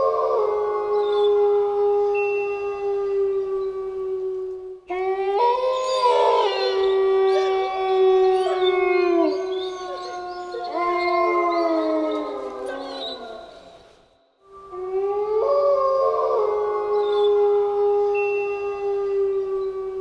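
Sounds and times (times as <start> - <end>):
wolves howling in chorus: 0.0 - 20.0.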